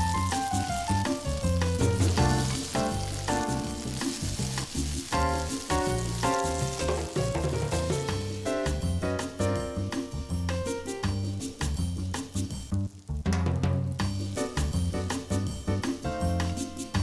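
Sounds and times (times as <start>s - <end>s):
background music: 0.0s - 17.0s
fritters sizzling in oil: 0.0s - 17.0s.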